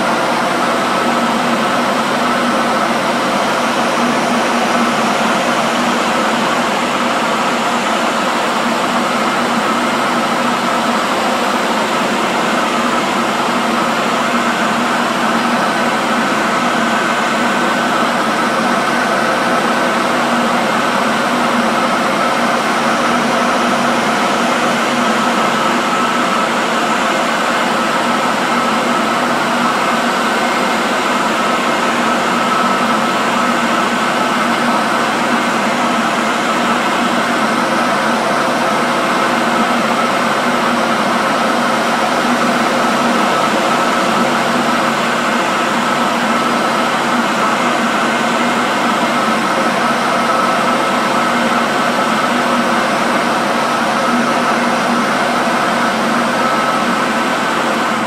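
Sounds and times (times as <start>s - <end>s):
electric hand dryer running: 0.0s - 58.0s.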